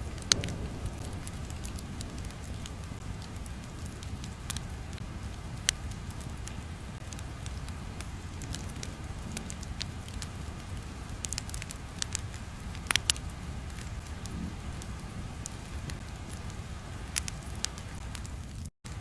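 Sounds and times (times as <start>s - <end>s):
low rumble: 0.0s - 19.0s
sharp crackles and pops: 0.0s - 19.0s.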